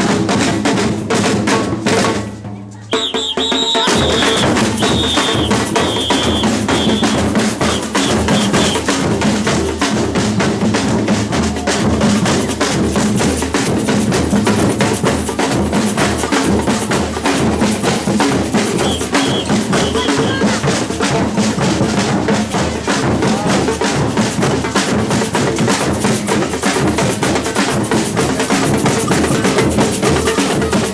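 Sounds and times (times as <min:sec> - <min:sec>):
samba percussion ensemble: 0:00.0 - 0:30.9.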